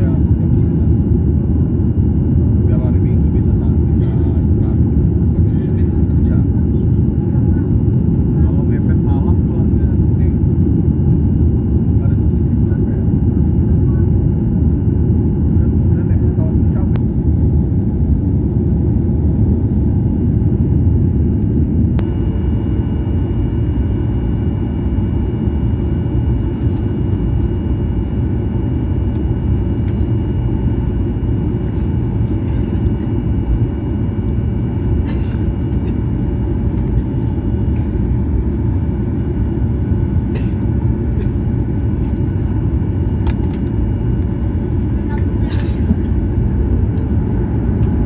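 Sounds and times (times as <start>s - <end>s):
jet cabin engine rumble: 0.0s - 48.0s
faint steady whine: 5.4s - 48.0s.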